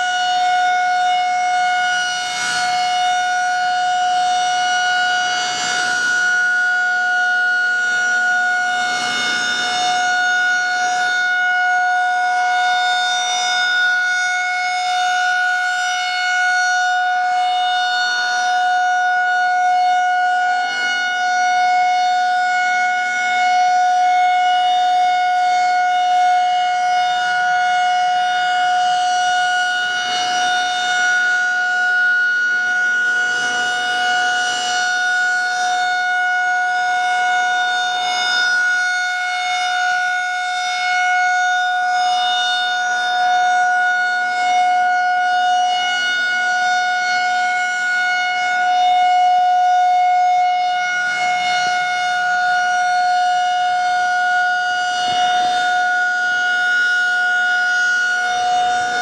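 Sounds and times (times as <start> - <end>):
rotating siren steady tone: 0.0 - 59.0.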